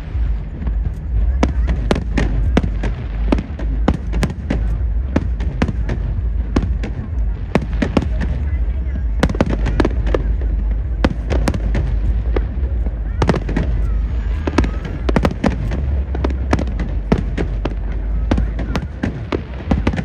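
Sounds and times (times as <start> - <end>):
fireworks bangs and pops: 0.0 - 20.0
low rumble: 0.0 - 20.0.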